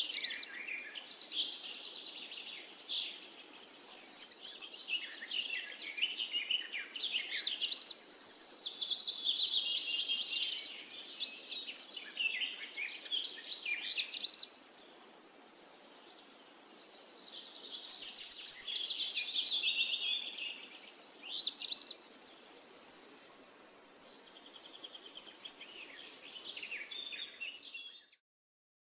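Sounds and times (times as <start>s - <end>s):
songbirds singing: 0.0s - 28.2s.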